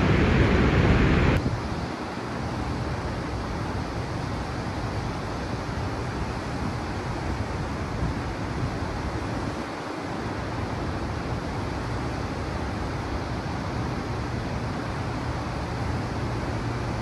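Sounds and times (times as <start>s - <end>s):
river running: 0.0s - 17.0s.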